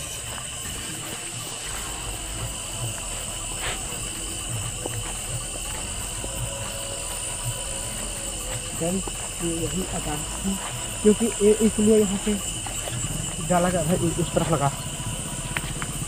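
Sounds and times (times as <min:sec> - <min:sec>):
crickets and insects trilling: 0:00.0 - 0:16.0
footsteps through grass: 0:00.0 - 0:16.0
frogs croaking: 0:00.0 - 0:16.0.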